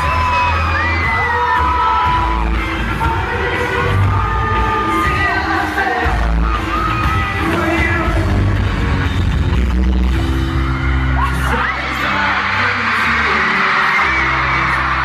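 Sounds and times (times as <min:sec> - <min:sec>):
pop-rock music with singer: 0:00.0 - 0:15.0.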